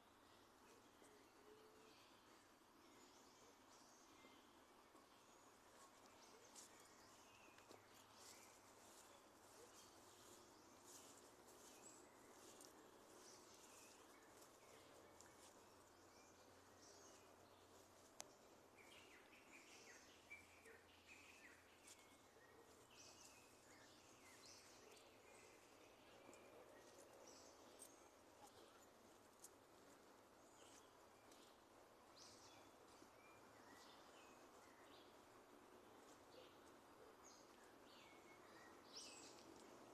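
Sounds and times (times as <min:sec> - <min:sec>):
faint birds chirping: 0:00.0 - 0:39.9
low background hiss: 0:00.0 - 0:39.9.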